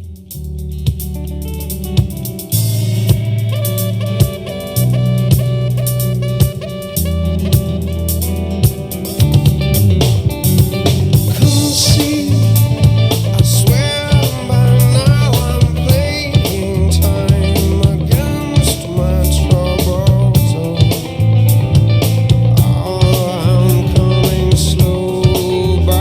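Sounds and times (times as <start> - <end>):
guitar over drums: 0.0 - 26.0
heavy pulsing bass line: 0.0 - 26.0
music over a speaker: 1.8 - 26.0.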